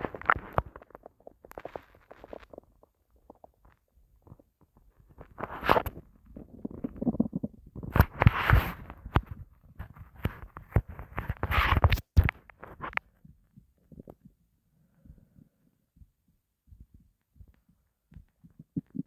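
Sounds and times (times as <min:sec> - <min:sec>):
stomach growling and gurgling: 0:00.0 - 0:19.0.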